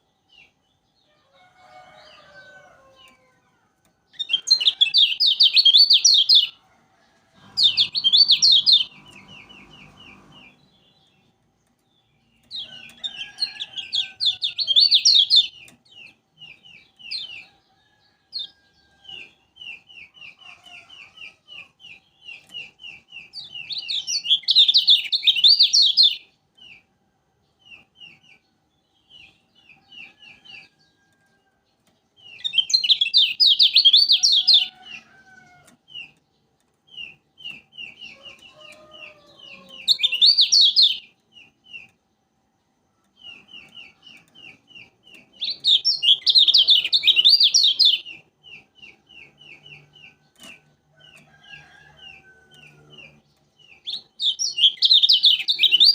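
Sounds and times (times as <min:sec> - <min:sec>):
bird twittering song: 0:00.0 - 0:06.6, 0:07.4 - 0:55.9.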